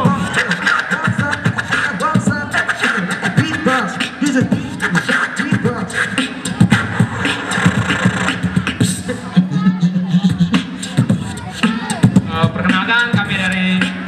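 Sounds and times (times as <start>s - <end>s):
group beatboxing through speakers: 0.0s - 14.0s.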